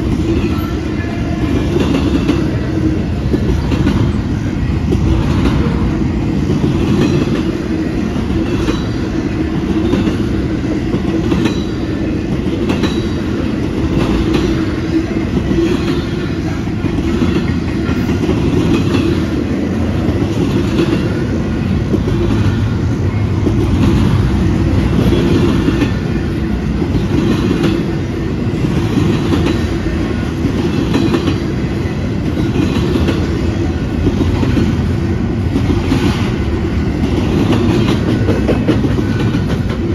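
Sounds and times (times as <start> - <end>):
steel wheels rumbling on rail: 0.0 - 39.9
wheels clicking over rail joints: 6.5 - 39.9.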